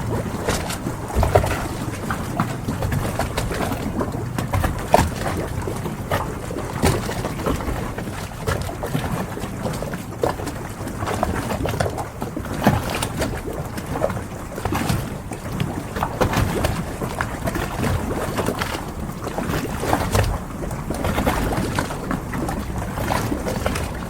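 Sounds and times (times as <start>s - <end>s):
boats knocking and creaking: 0.0s - 24.0s
water wash: 0.0s - 24.0s.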